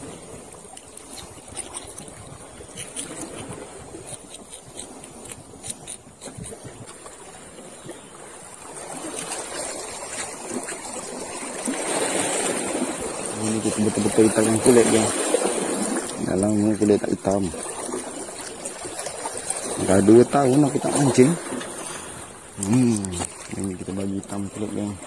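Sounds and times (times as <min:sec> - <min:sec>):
water lapping against rock: 0:00.0 - 0:25.0.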